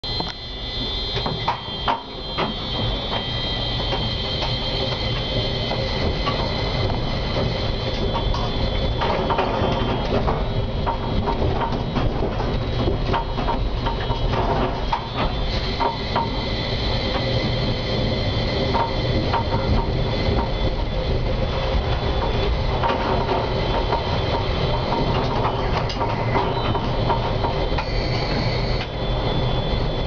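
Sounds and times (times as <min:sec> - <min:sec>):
tram rumbling: 0:00.0 - 0:30.0
wheels clicking over rail joints: 0:01.2 - 0:16.4, 0:18.6 - 0:28.0.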